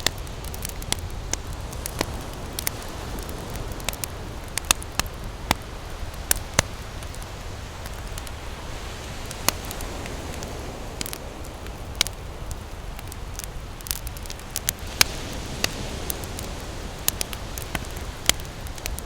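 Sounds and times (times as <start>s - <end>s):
campfire crackling and popping: 0.0s - 19.0s
ocean surf: 0.0s - 19.0s.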